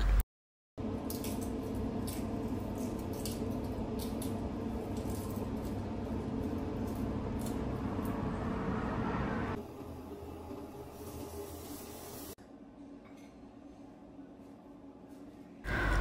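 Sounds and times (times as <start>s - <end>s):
low background hum: 0.8s - 16.0s.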